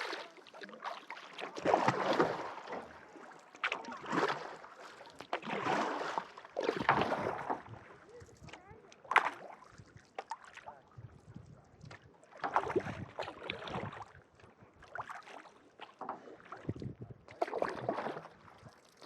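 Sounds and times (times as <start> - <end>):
kayak paddle splashing in water: 0.0 - 19.0.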